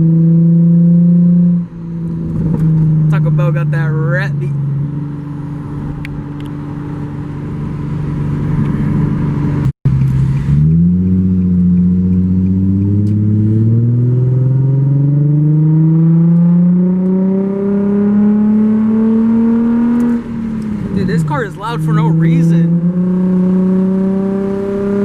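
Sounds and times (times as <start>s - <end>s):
car engine drone in cabin: 0.0s - 25.0s.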